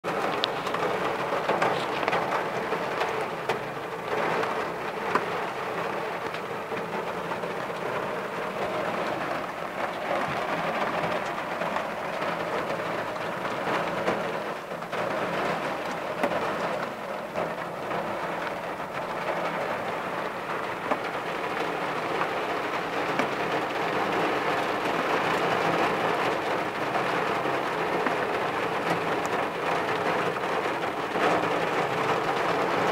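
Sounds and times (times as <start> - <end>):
heavy rain drumming on car roof: 0.0 - 32.9.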